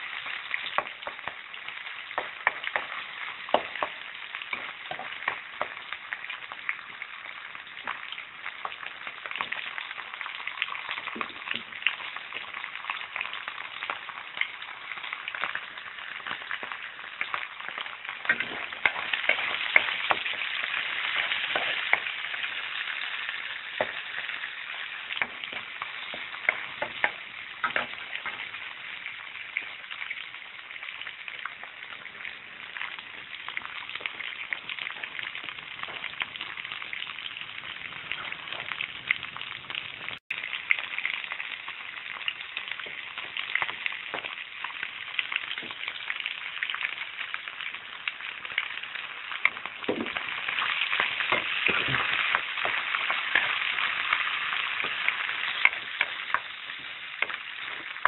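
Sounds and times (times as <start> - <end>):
vegetables sizzling in hot oil: 0.0 - 58.0.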